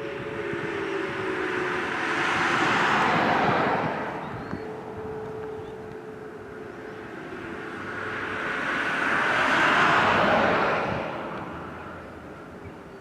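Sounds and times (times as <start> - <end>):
distant warning siren: 0.0 - 13.0
vehicle passing by: 0.0 - 13.0.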